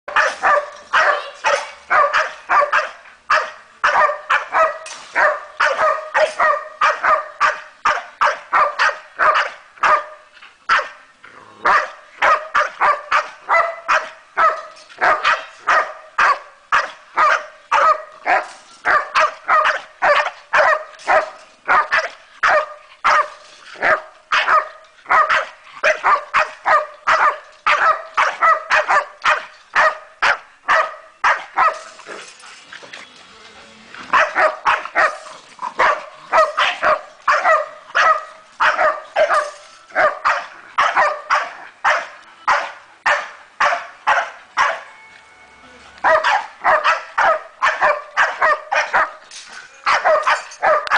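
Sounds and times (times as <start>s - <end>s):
dog barking: 0.1s - 11.0s, 11.7s - 31.9s, 34.1s - 35.2s, 35.8s - 44.8s, 46.0s - 49.2s, 49.9s - 50.9s.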